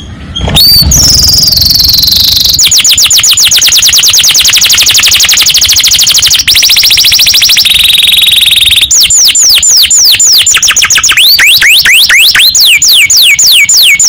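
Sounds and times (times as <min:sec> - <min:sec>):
canary singing: 0:00.0 - 0:05.7, 0:07.0 - 0:14.0.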